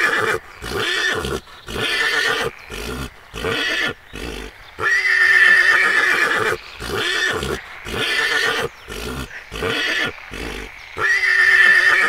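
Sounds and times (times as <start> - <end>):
stallions calling: 0.0 - 12.0.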